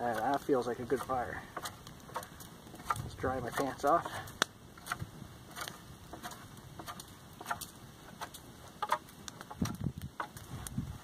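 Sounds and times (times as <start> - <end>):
knife scraping wood: 0.1 - 10.5.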